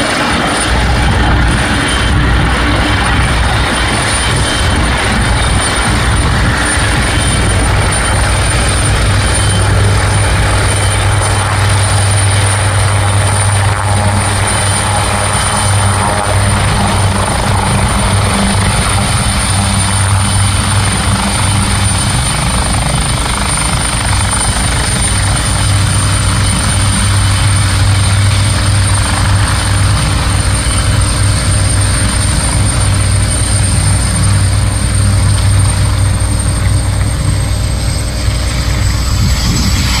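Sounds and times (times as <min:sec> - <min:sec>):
helicopter rotor beat: 0:00.0 - 0:40.0
turbine whine: 0:00.0 - 0:40.0.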